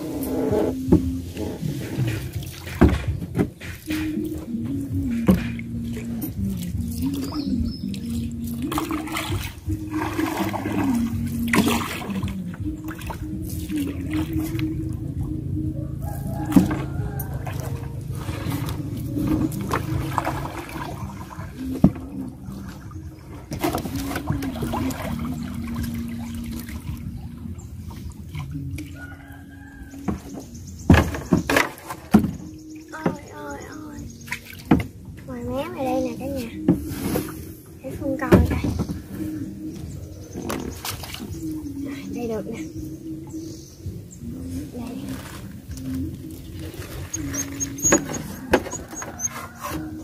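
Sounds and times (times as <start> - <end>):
oar splashing in water: 0.0 - 36.0, 36.6 - 43.0, 44.4 - 50.0.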